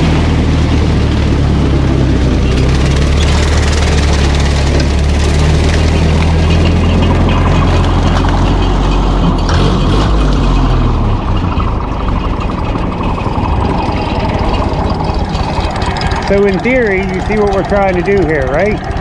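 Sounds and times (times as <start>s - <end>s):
tractor engine running: 0.0s - 19.0s
mechanical rattle: 2.5s - 19.0s.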